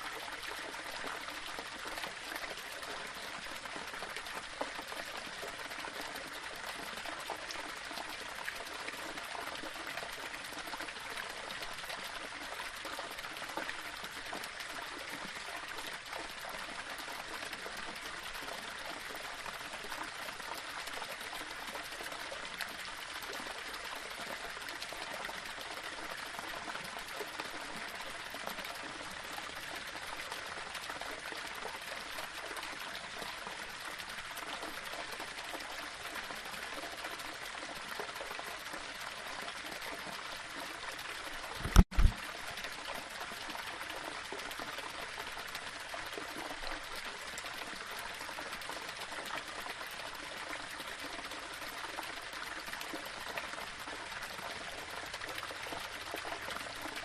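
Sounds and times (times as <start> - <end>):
small waterfall splashing over rocks: 0.0 - 57.0.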